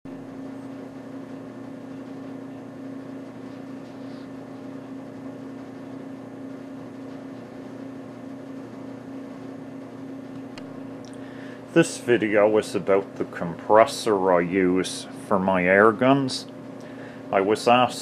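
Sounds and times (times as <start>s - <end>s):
low machine hum: 0.1s - 18.0s.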